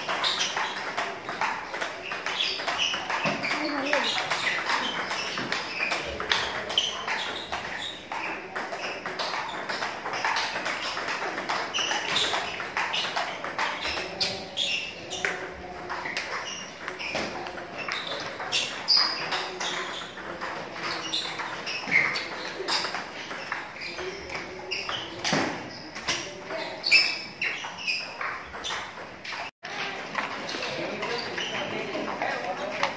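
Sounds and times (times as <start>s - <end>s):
table tennis balls clicking: 0.0s - 32.9s.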